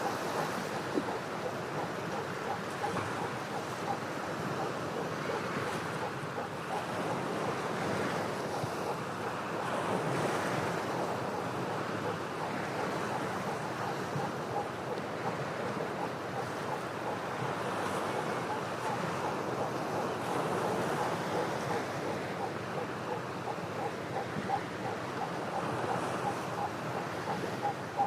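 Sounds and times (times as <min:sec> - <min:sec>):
ocean waves breaking on rocks: 0:00.0 - 0:28.0.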